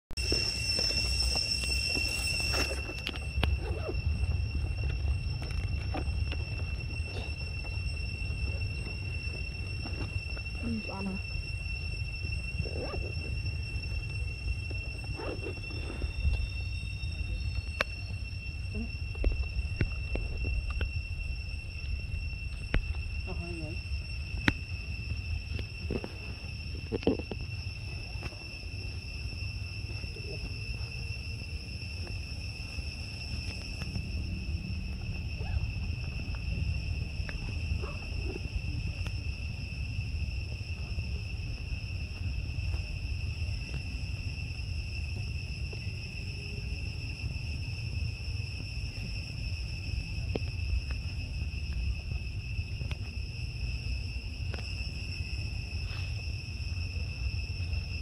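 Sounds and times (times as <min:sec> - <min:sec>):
insect drone: 0:00.1 - 0:58.0
low rumble: 0:00.1 - 0:58.0.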